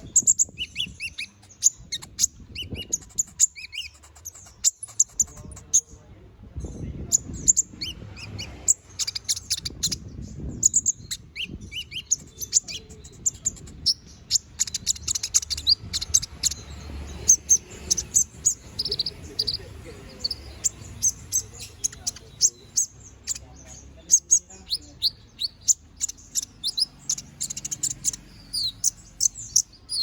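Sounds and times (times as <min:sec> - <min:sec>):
canary singing: 0:00.0 - 0:06.0, 0:06.6 - 0:30.0.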